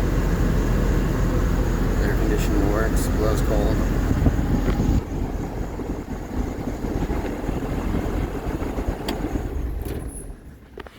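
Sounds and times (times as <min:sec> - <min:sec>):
diesel engine rumbling: 0:00.0 - 0:10.9.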